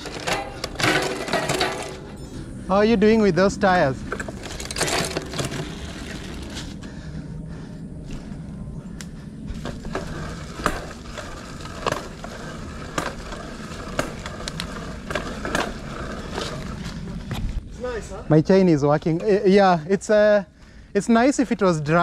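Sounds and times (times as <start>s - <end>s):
bike rattling over bumps: 0.0s - 18.0s
bike tyres on dirt trail: 0.0s - 22.0s.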